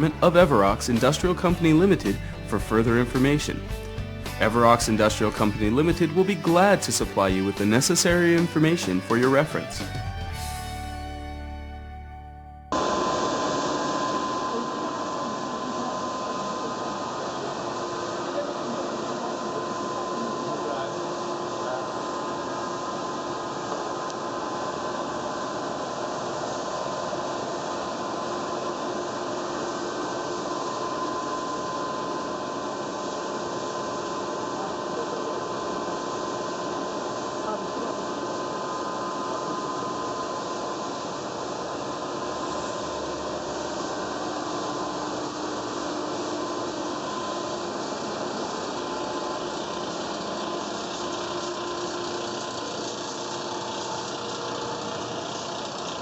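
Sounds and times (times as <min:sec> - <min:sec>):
drilling machine running: 0:00.0 - 0:12.0, 0:12.7 - 0:56.0.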